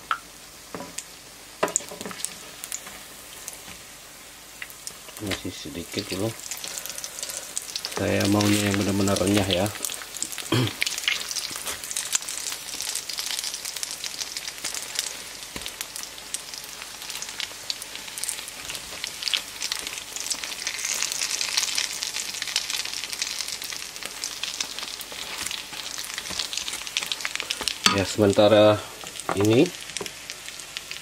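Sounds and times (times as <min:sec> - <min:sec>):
pancakes sizzling in oil: 0:00.0 - 0:31.0.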